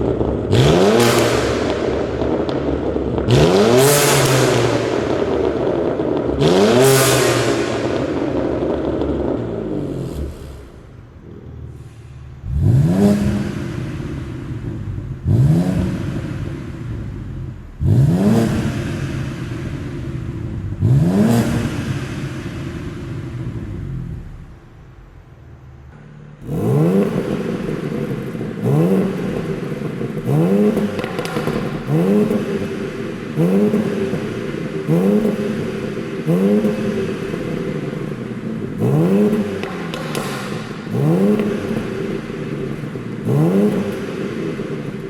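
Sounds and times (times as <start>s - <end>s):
car engine idling: 0.0s - 45.0s
car engine throttle blips: 0.0s - 45.0s.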